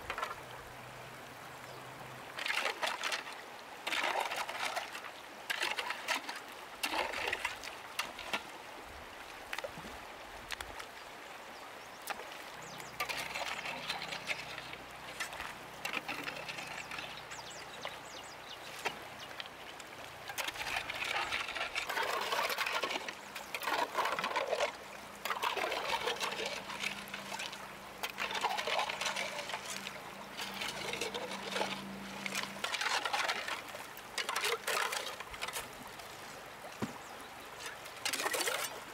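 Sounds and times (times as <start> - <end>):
stream water splashing: 0.0 - 38.9.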